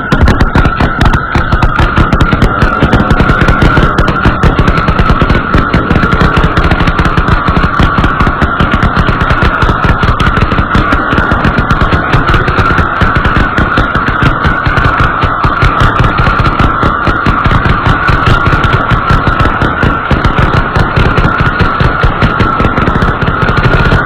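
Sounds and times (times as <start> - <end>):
firework barrage: 0.0 - 24.0
steady high tone: 0.0 - 24.0.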